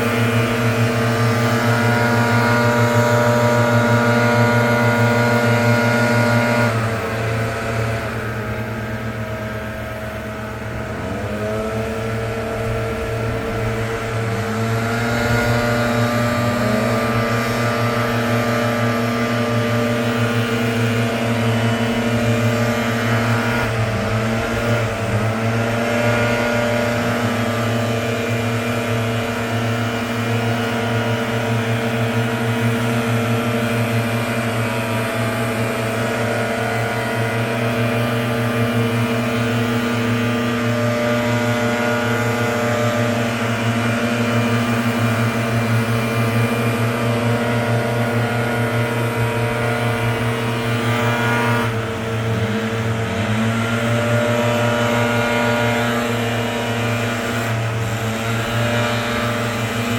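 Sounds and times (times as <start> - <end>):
leaf blower engine: 0.0 - 59.9.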